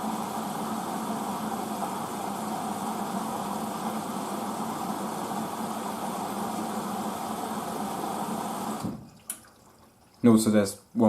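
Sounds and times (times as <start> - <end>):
washing machine whirring: 0.0 - 11.0.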